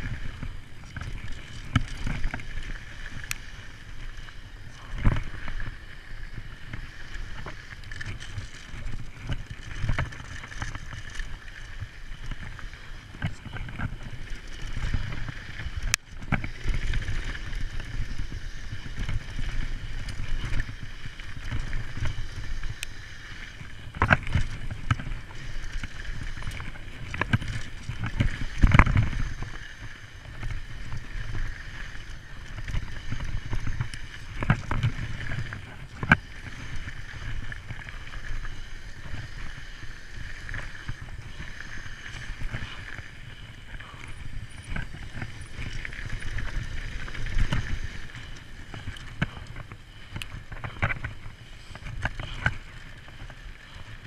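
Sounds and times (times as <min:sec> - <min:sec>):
mountain bike rattling over dirt: 0:00.0 - 0:54.0.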